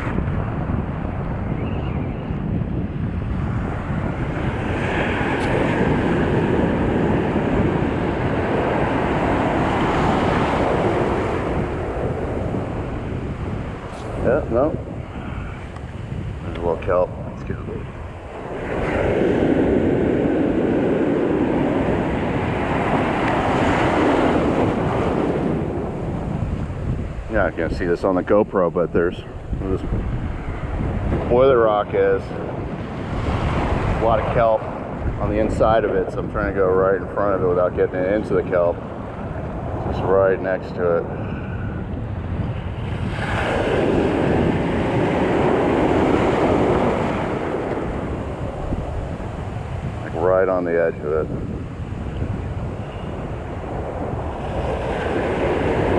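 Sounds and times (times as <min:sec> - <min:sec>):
ocean surf washing ashore: 0:00.0 - 0:01.6, 0:02.3 - 0:55.9
wind rumbling on microphone: 0:00.0 - 0:55.9
wave breaking on shore: 0:03.3 - 0:36.3, 0:42.2 - 0:55.9.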